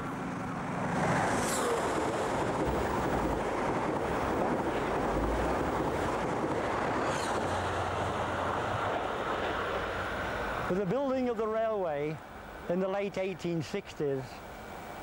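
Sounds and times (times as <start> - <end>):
train rushing past: 0.0 - 12.7.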